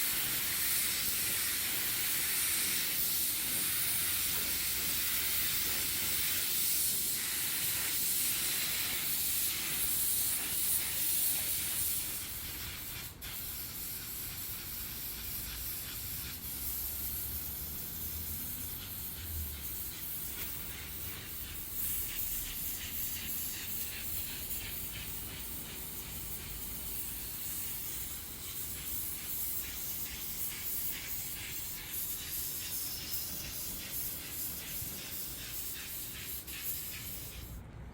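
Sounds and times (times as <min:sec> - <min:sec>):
paint spray gun hissing: 0:00.0 - 0:37.6.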